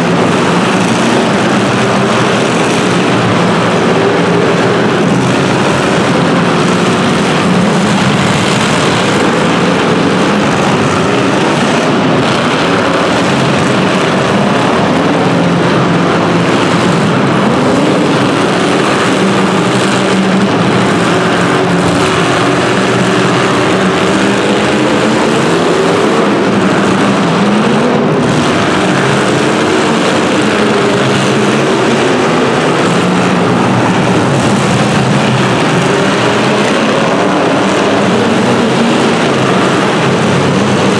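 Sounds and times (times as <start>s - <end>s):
small racing engines revving: 0.0s - 40.9s.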